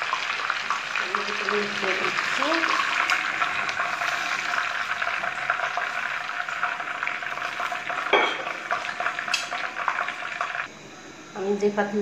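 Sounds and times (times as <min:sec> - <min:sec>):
oil sizzling in a frying pan: 0:00.0 - 0:10.7.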